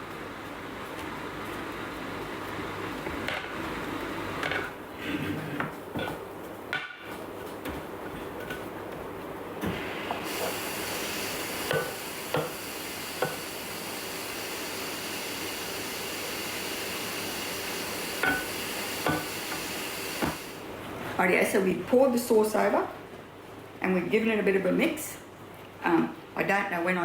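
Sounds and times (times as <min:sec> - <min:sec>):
steady sizzling hiss: 0:00.0 - 0:27.0.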